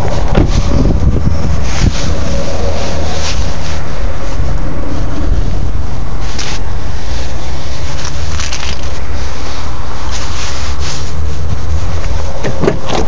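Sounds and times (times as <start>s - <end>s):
rubbing or scraping noises: 0.0s - 13.0s
wind buffeting microphone: 0.0s - 13.0s.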